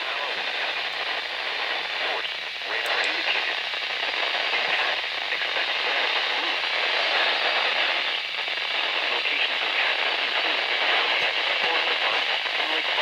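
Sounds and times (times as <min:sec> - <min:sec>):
radio static hiss and crackle: 0:00.0 - 0:13.0.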